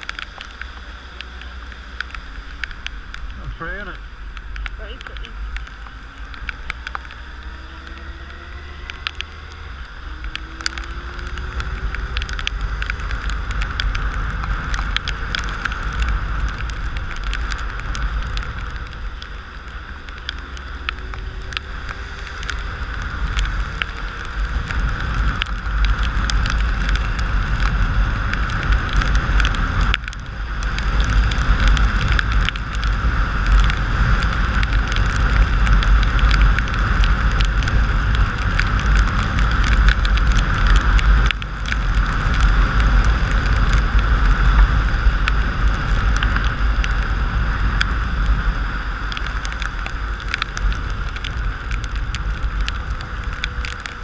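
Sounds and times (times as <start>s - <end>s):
raindrops ticking on camera: 0.0s - 54.0s.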